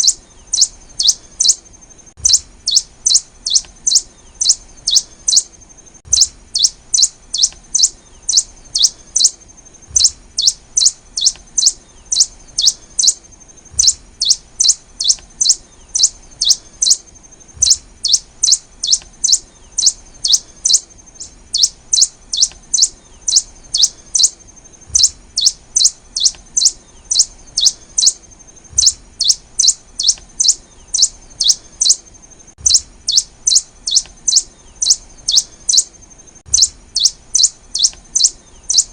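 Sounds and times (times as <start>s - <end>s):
bird sharp high chirps: 0.0s - 38.9s.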